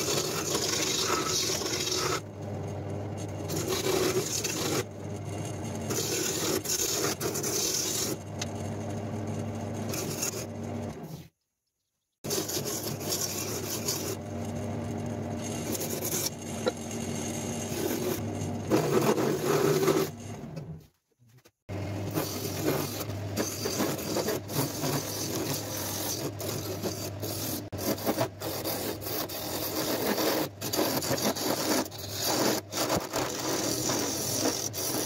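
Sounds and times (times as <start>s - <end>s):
turning tool cutting spinning wood: 0.0s - 11.2s, 12.2s - 20.7s, 21.7s - 35.0s.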